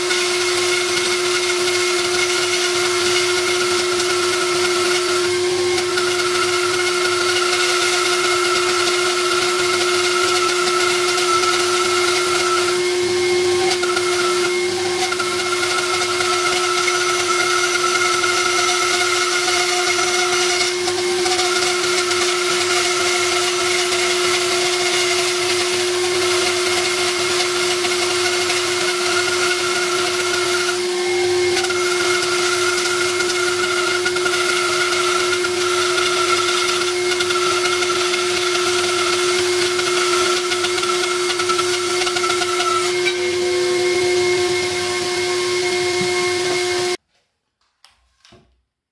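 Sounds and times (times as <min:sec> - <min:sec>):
jointer whining: 0:00.0 - 0:47.0.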